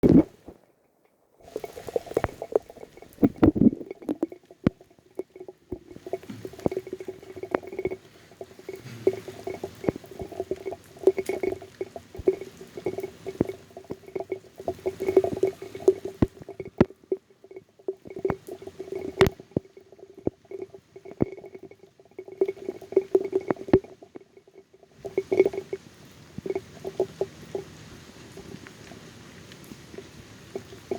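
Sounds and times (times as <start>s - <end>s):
raindrops tapping on phone: 0.0s - 30.9s.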